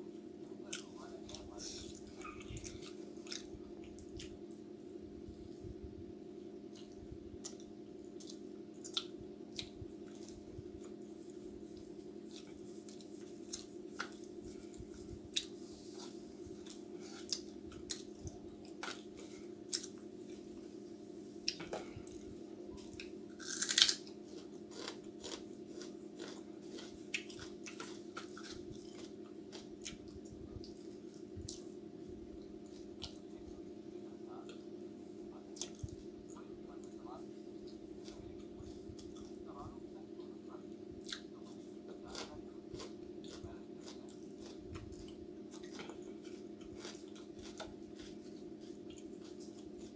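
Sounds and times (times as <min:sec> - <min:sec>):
steady low hum: 0:00.0 - 0:49.9
person chewing food: 0:00.6 - 0:04.6, 0:06.6 - 0:49.9.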